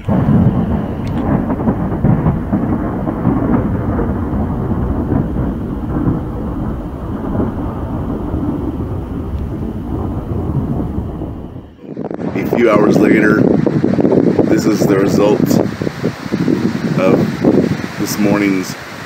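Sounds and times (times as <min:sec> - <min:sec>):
rain: 0:00.0 - 0:19.0
thunder rumbling: 0:00.0 - 0:19.0.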